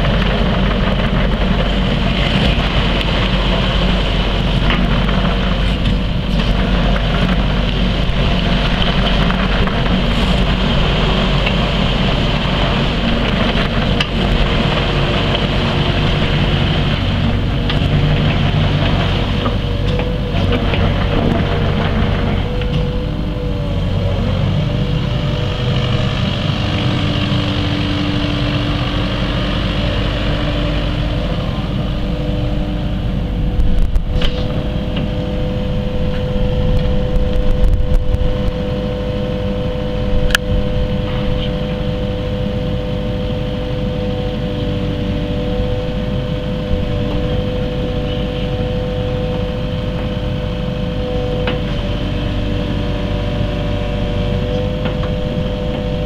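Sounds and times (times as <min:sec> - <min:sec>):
excavator diesel engine running: 0:00.0 - 0:56.0
steady whine: 0:00.0 - 0:56.0.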